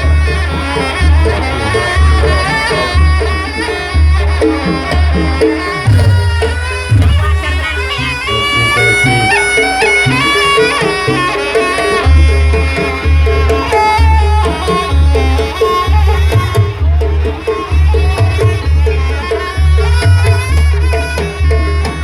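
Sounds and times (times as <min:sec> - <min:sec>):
shrill double-reed trumpet melody: 0:00.0 - 0:17.8
drums and gongs: 0:00.0 - 0:22.0
heavy low drum beat: 0:00.0 - 0:22.0.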